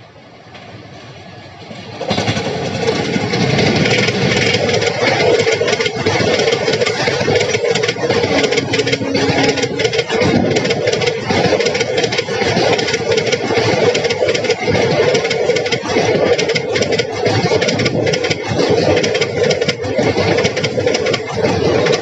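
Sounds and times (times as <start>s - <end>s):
electric locomotive rushing past: 0.0s - 22.0s
train steady hum: 0.0s - 22.0s
train wheels clattering over rails: 0.4s - 22.0s.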